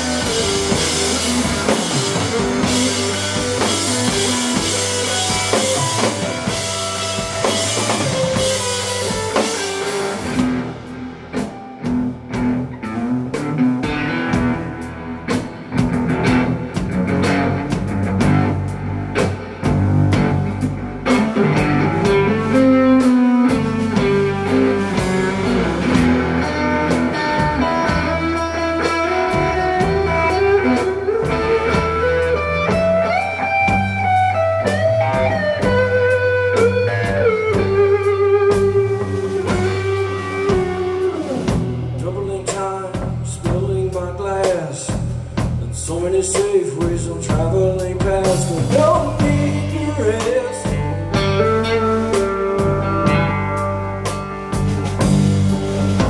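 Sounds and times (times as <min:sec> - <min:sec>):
bass: 0:00.0 - 0:56.0
drums: 0:00.0 - 0:56.0
electric guitar: 0:00.0 - 0:56.0.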